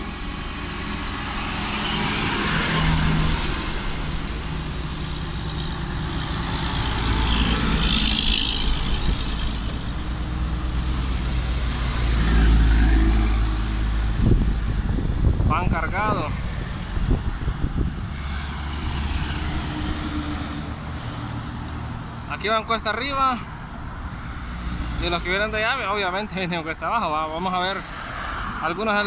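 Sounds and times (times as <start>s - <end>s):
truck diesel engines droning: 0.0s - 29.0s.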